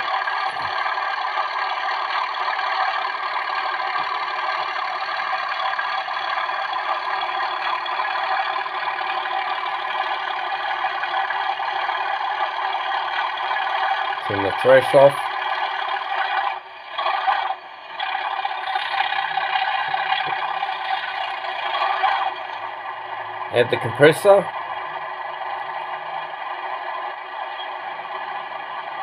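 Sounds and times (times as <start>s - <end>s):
model locomotive diesel engine sound: 0.0s - 29.0s.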